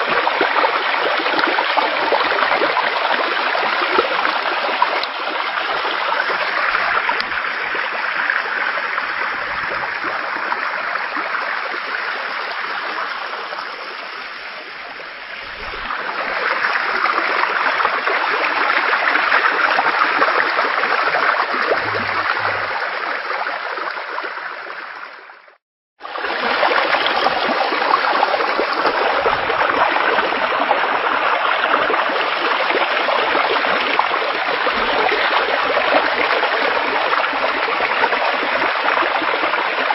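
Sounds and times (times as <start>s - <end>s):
floodwater rushing: 0.0s - 24.8s, 26.0s - 39.9s.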